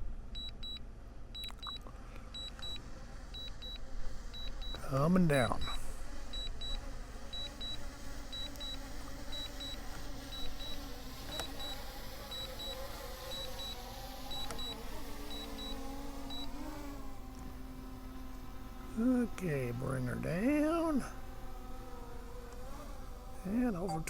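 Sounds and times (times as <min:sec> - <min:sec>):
drone propellers humming: 0:01.4 - 0:24.0.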